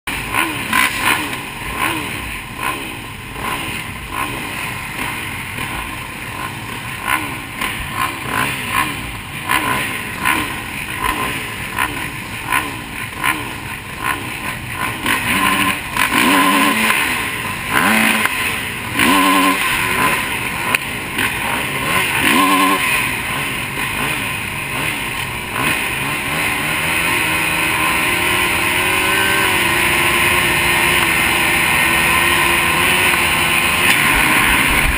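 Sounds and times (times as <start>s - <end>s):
motocross bikes idling and revving: 0.0s - 34.9s.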